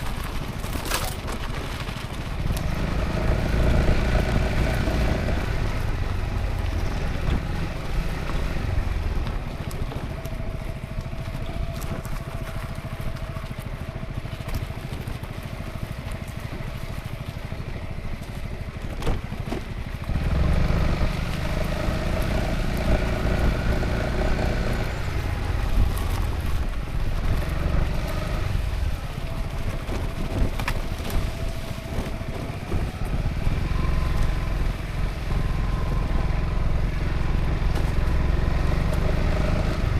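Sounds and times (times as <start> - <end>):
low wind rumble: 0.0 - 39.9
scooter engine running: 0.0 - 39.9.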